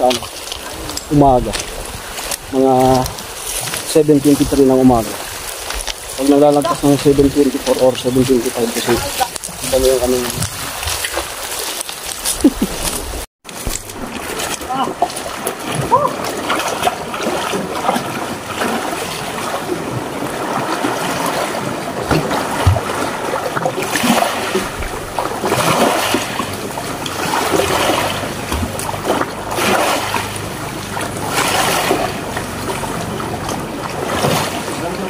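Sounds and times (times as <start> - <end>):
sea water sloshing: 0.0 - 35.0.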